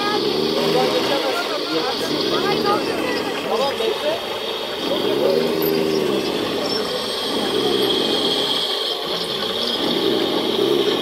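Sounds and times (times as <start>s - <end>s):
small electric motors whirring: 0.0s - 11.0s
steady high whine: 0.0s - 11.0s.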